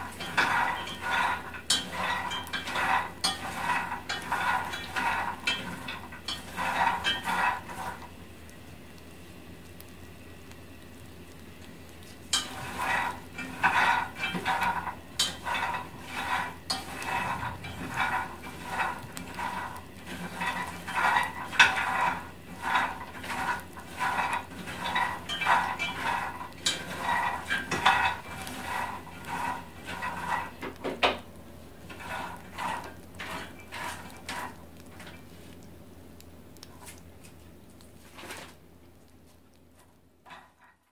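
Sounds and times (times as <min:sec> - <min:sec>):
peanuts rattling while stirred: 0:00.0 - 0:37.6.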